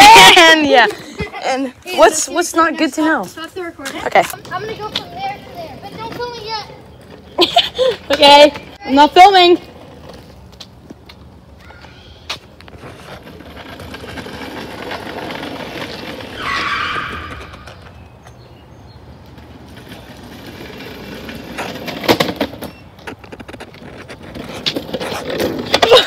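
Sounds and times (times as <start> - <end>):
skidding scrape: 0.0 - 26.0
wheels rolling over asphalt: 0.0 - 26.0.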